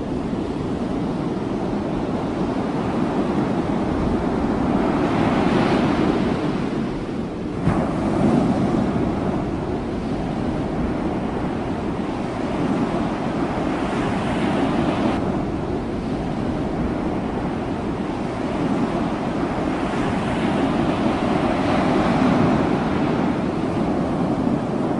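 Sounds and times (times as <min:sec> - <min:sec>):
ocean surf breaking: 0:00.0 - 0:24.9
wind buffeting microphone: 0:00.0 - 0:24.9.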